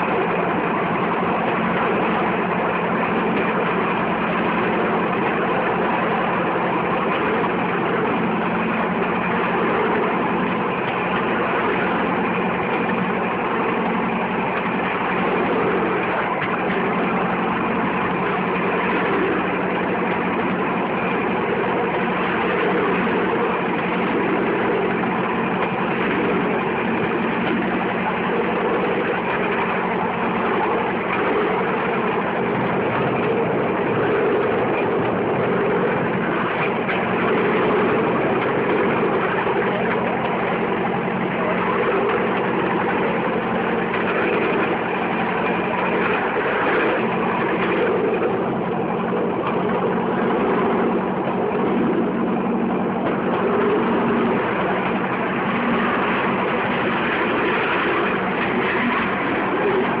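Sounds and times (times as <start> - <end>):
platform rattling on rails: 0.0 - 60.0.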